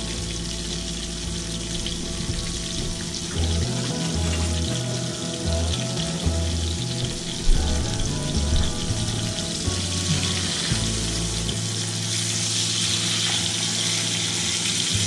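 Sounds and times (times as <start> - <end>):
steaks sizzling in hot oil: 0.0 - 15.0.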